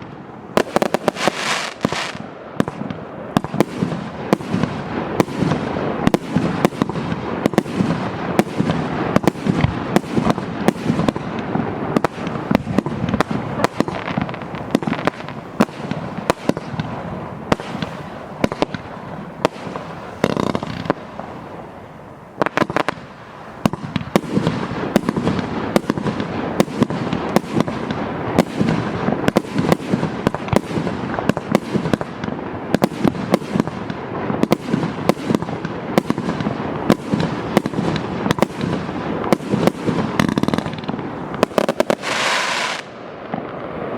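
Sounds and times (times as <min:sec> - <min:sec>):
firework bangs in rapid succession: 0:00.0 - 0:21.2, 0:22.4 - 0:43.9.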